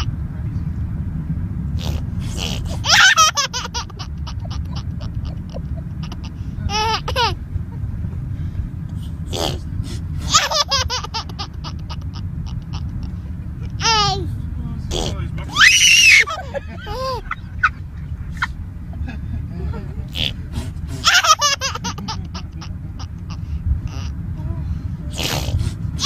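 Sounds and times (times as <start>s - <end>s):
low rumble: 0.0s - 26.0s
baby giggling: 1.8s - 7.5s, 9.2s - 14.3s, 14.9s - 24.2s, 25.1s - 26.0s.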